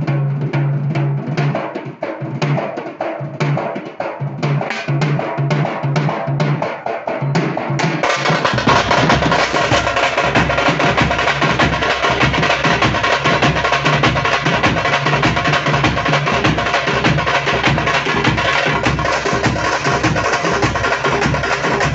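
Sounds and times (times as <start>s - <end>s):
deep drum beat: 0.0s - 21.9s
frame drums playing fast rhythm: 0.0s - 21.9s.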